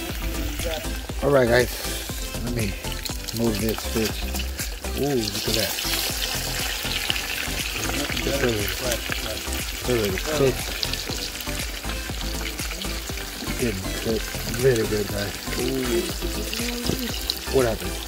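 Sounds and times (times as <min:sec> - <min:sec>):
fish sizzling in a pan: 0:00.0 - 0:18.0.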